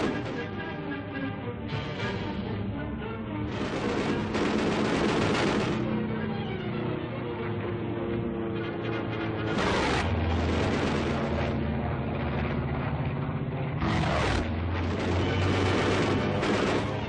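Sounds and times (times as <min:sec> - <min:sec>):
aircraft engine drone: 0:00.0 - 0:17.0
aircraft rushing past: 0:01.6 - 0:17.0.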